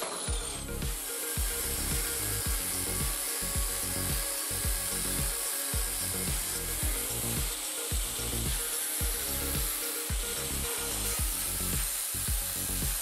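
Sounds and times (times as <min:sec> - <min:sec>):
angle grinder cutting steel: 0:00.0 - 0:13.0
background music with beat: 0:00.0 - 0:13.0.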